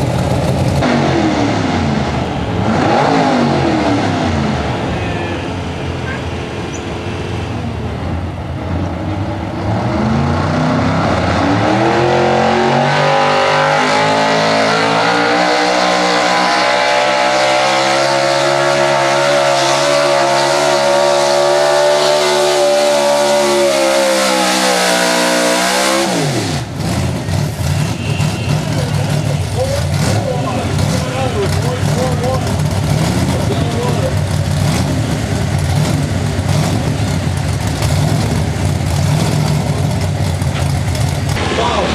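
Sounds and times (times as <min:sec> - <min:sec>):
pickup truck engine at full throttle: 0:00.0 - 0:04.9, 0:06.5 - 0:41.8.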